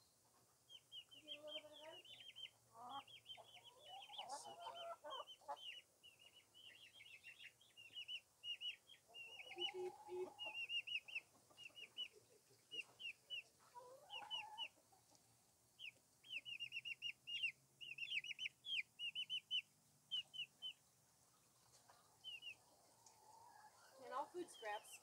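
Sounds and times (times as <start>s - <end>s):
chickens chirping: 0.0s - 25.0s.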